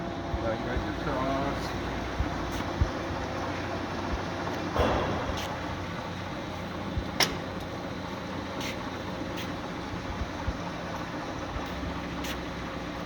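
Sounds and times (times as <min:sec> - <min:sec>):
lathe running with steady hum: 0:00.0 - 0:13.0.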